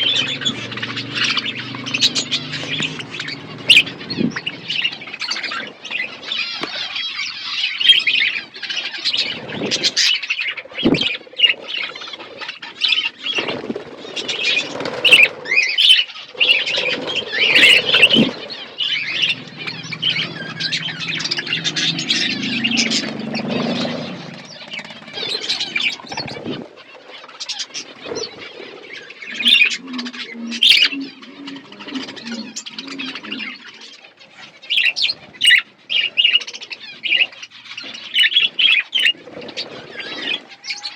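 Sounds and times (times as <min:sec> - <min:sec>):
budgerigars chirping and chattering: 0:00.0 - 0:40.9
wings fluttering: 0:00.0 - 0:40.9.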